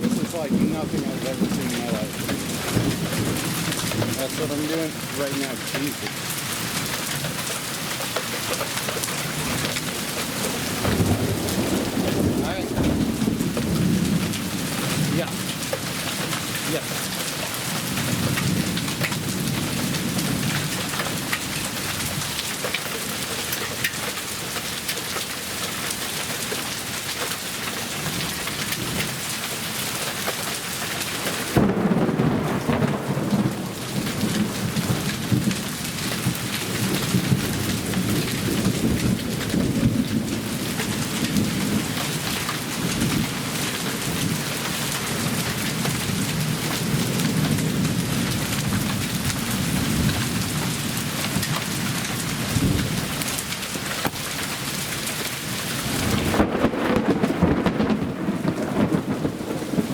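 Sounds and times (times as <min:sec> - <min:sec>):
hail and heavy rain pelting: 0:00.0 - 0:59.9.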